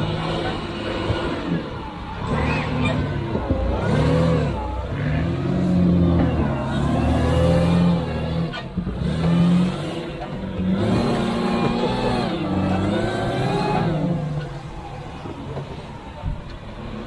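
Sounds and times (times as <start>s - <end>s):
truck engine labouring: 0.0s - 17.0s.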